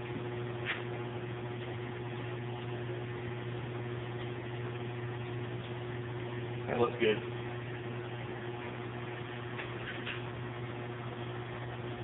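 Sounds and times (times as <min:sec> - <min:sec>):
hydraulic pump humming: 0:00.0 - 0:12.0.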